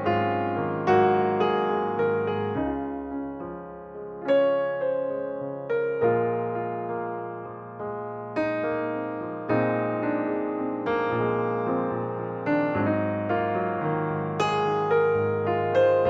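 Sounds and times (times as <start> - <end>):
slow solo piano piece: 0.0 - 16.0.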